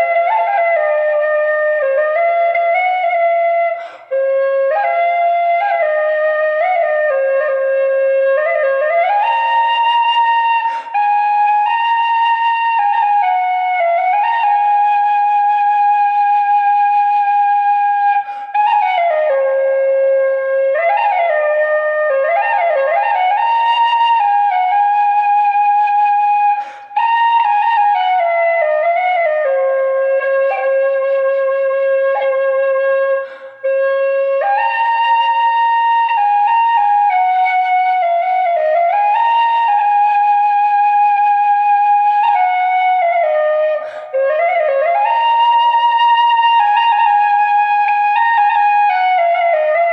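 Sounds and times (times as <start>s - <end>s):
flute playing slow melody: 0.0s - 49.9s.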